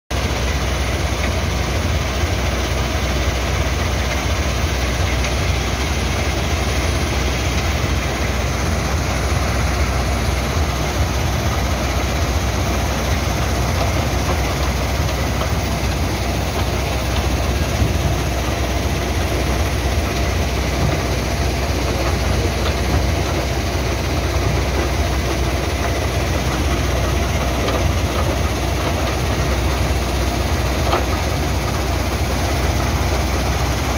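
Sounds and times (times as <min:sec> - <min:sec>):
crusher machinery running: 0:00.1 - 0:33.9.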